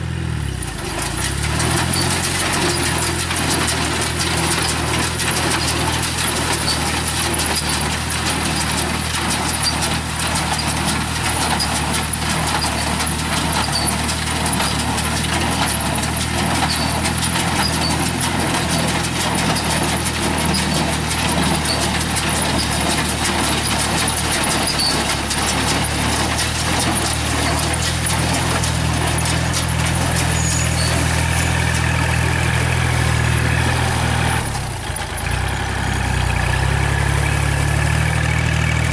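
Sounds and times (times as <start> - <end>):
tractor engine drone: 0.0 - 38.9
baler mechanism clattering: 1.0 - 35.4.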